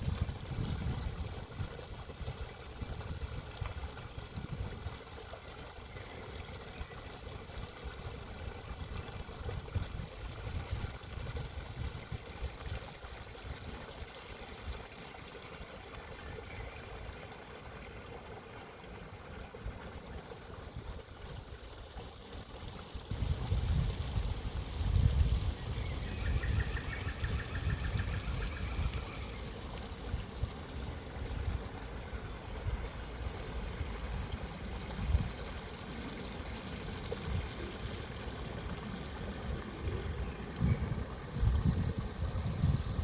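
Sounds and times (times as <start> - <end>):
stream water trickling: 0.0 - 43.0.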